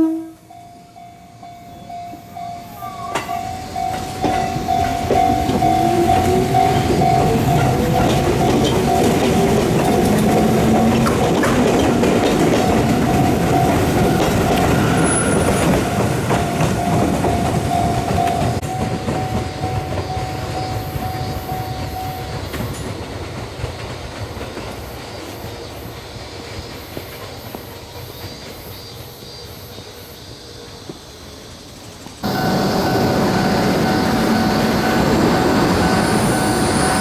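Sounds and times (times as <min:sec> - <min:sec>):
electric train high whine: 0:00.0 - 0:37.0
wheels clacking over rail joints: 0:03.0 - 0:28.8, 0:32.2 - 0:37.0.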